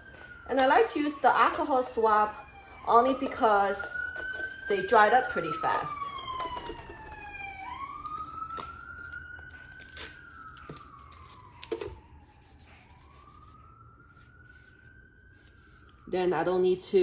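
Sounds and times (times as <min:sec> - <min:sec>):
faint emergency siren wailing: 0:00.0 - 0:17.0.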